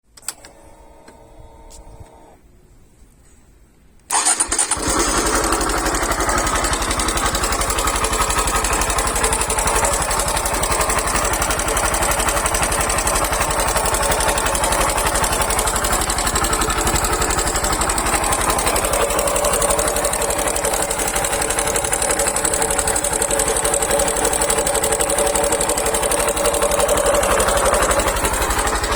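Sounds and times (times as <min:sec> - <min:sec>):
engine clicking noise: 0:04.1 - 0:28.9
motorcycle engine idling: 0:04.1 - 0:28.9.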